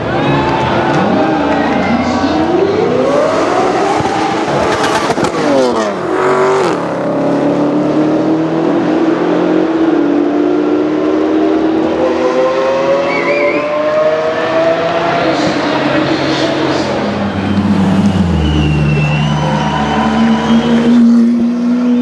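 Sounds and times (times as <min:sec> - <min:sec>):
car engines accelerating: 0:00.0 - 0:22.0.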